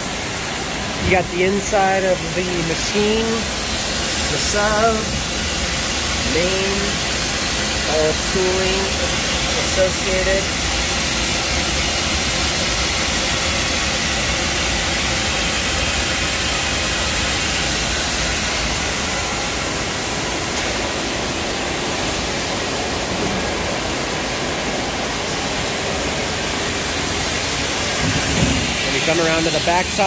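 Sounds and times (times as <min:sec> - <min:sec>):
machine shop hiss: 0:00.0 - 0:30.0.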